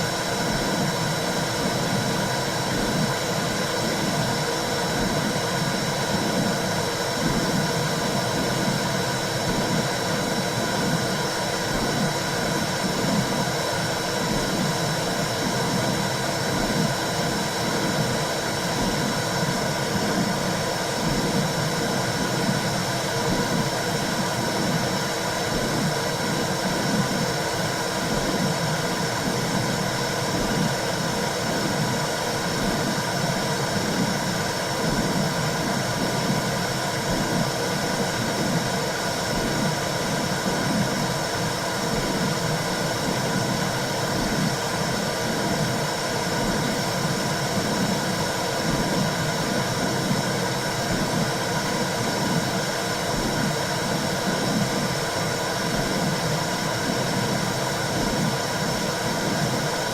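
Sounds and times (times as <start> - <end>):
low rhythmic pulsing: 0.0 - 59.9.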